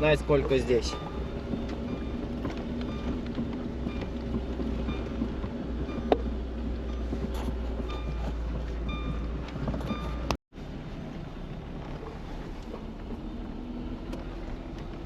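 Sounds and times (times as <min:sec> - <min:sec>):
car engine hum and rumble: 0:00.0 - 0:15.0.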